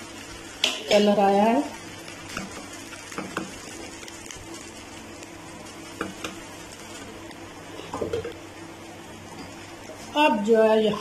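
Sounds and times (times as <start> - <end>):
crust sizzling in a pan: 0.0 - 10.9.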